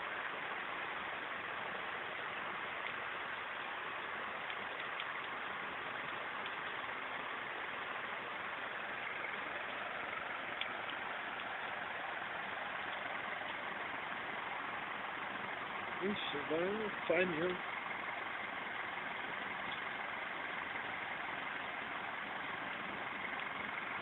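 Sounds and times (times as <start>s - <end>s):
car engines idling: 0.0s - 24.0s
heavy rain falling: 0.0s - 24.0s.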